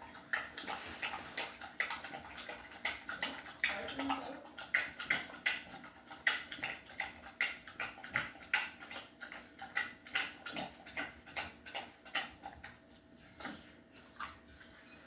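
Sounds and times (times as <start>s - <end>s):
pet chewing wetly: 0.0s - 15.0s.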